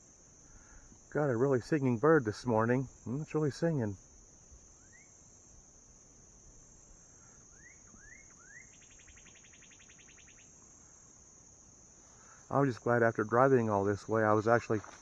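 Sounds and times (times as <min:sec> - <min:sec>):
crickets chirping: 0:00.0 - 0:15.0
songbird singing: 0:00.0 - 0:15.0.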